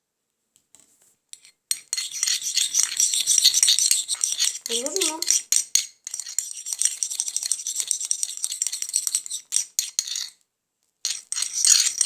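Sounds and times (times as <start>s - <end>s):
spoon clinking and scraping bowl: 1.4s - 10.4s, 11.1s - 12.0s.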